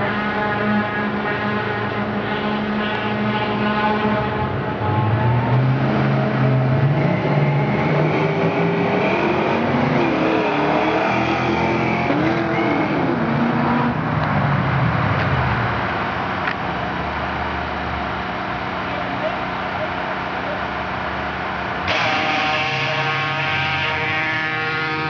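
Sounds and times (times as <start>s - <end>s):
cars accelerating hard: 4.2s - 25.0s.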